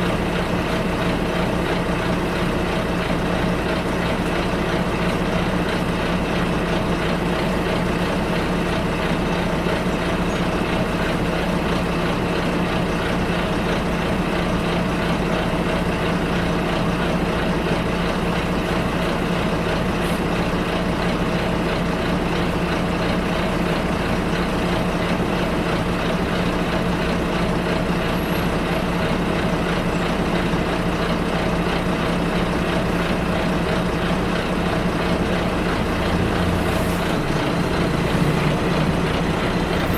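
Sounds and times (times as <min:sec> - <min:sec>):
bus engine hum: 0:00.0 - 0:39.9
road and rolling noise: 0:00.0 - 0:39.9.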